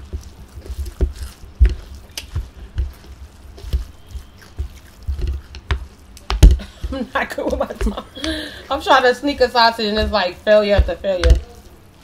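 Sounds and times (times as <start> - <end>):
chopsticks stirring noodles: 0.0 - 12.0.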